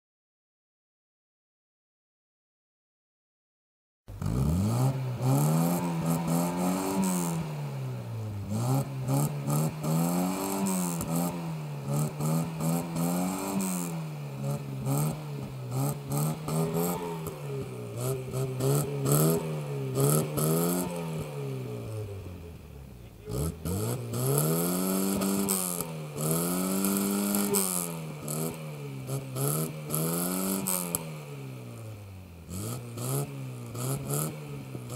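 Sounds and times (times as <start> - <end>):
car engine revving: 4.1 - 34.9.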